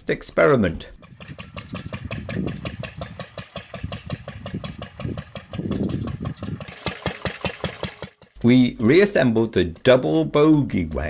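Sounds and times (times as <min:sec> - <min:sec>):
single-cylinder engine running: 0:01.0 - 0:10.0.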